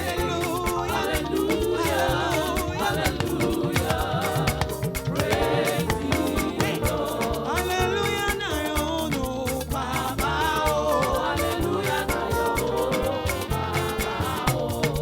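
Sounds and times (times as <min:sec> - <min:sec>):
busy drum beat: 0:00.0 - 0:15.0
gospel praise music: 0:00.0 - 0:15.0
singing: 0:00.0 - 0:15.0.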